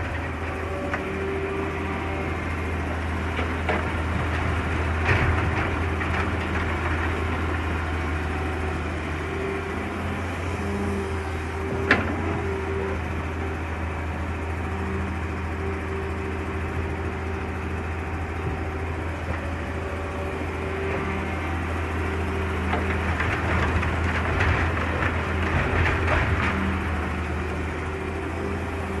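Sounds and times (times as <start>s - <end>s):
engine clattering: 0.0s - 29.0s
excavator diesel engine humming: 0.0s - 29.0s.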